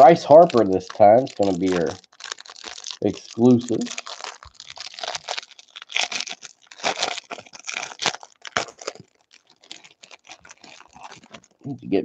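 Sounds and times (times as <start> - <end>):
plastic wrapper crinkling and tearing: 0.0 - 11.7.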